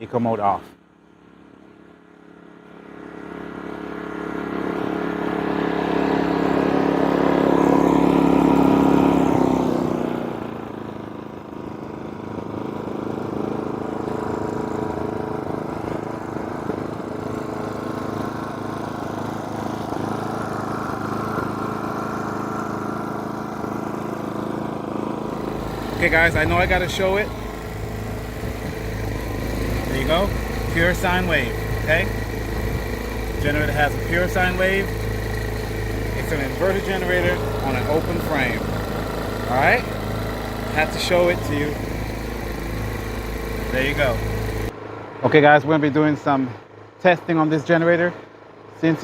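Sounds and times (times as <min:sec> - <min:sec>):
generator running: 0:00.0 - 0:49.0.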